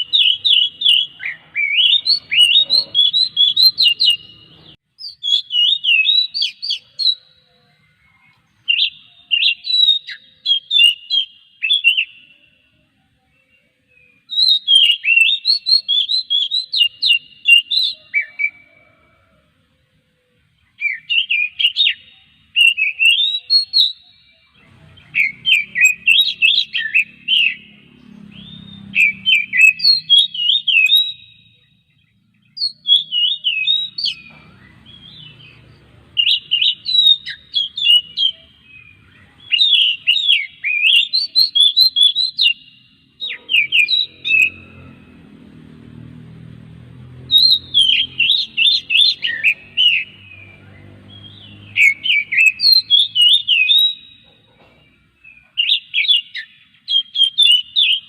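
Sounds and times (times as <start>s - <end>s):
bird singing whistled notes: 0.0s - 19.2s, 20.6s - 45.2s, 47.1s - 58.0s.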